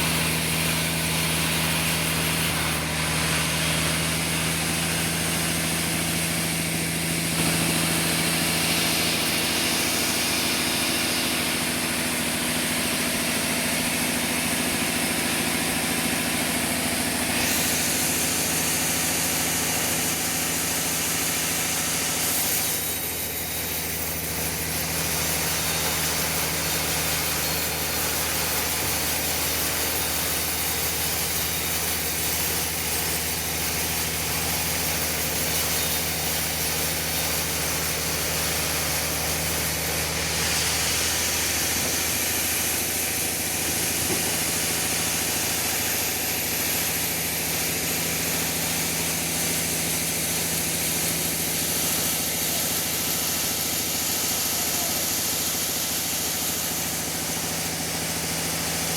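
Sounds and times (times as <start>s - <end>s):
engine hum: 0.0s - 31.5s, 37.3s - 58.9s.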